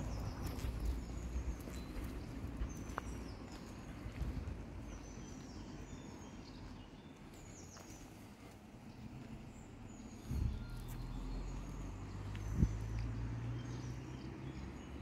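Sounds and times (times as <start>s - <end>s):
low outdoor rumble: 0.0s - 14.9s
small birds chirping: 0.0s - 15.0s.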